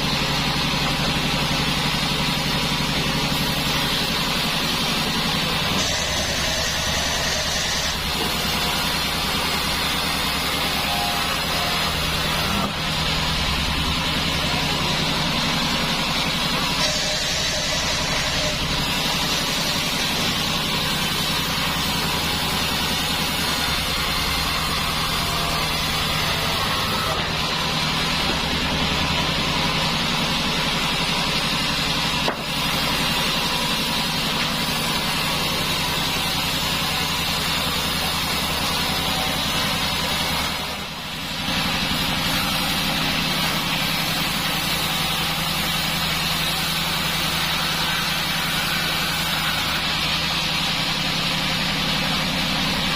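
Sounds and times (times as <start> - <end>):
band saw machinery: 0.0 - 52.9.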